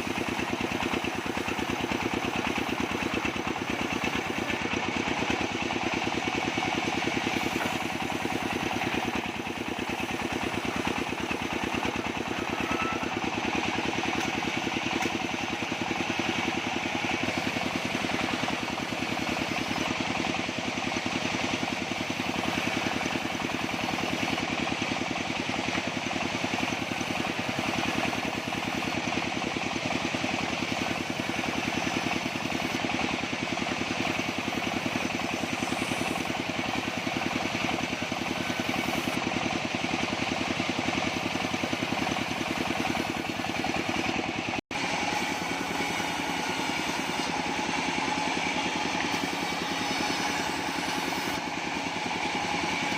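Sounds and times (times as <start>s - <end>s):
engine chugging: 0.0s - 52.9s.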